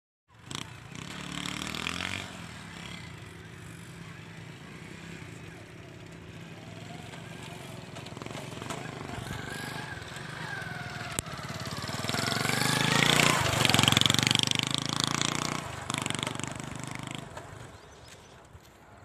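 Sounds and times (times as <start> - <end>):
motorcycle riding past: 0.3 - 19.0.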